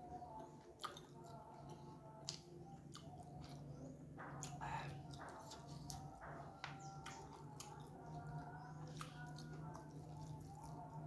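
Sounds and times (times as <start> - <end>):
wet chewing and squishing: 0.4 - 11.0.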